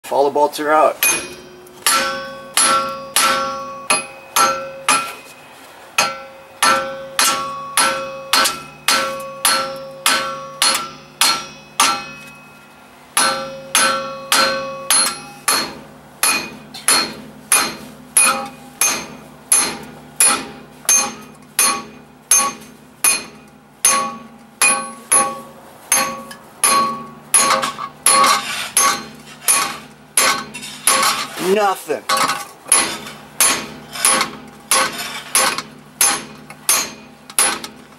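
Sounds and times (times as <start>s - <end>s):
slide hammer metal clanks: 1.0s - 5.4s, 6.0s - 12.6s, 13.2s - 31.4s, 32.1s - 37.8s.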